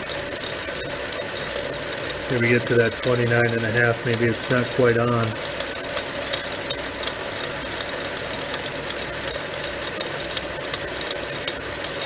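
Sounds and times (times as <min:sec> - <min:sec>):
light regular ticking: 0:00.0 - 0:12.0
metal lathe motor hum: 0:00.0 - 0:12.0.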